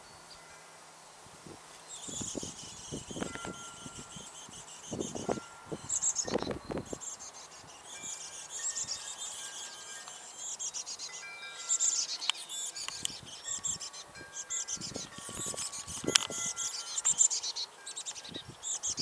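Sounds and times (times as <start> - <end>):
nestlings begging calls: 1.8 - 19.0.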